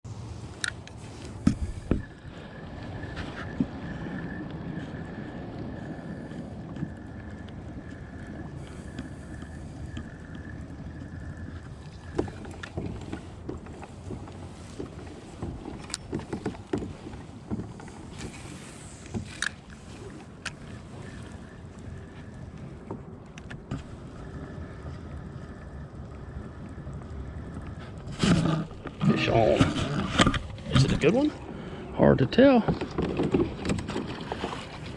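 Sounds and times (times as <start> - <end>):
thin steady whine: 0.0 - 32.7
water noise: 0.0 - 34.9.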